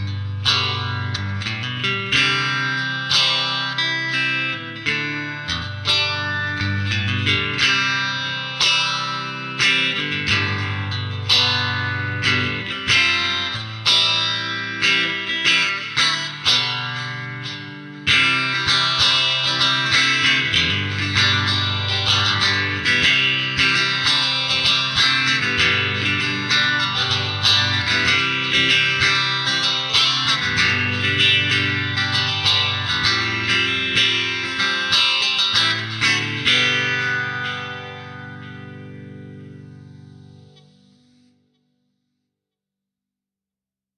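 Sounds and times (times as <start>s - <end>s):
electric guitar plucked notes: 0.0s - 41.4s.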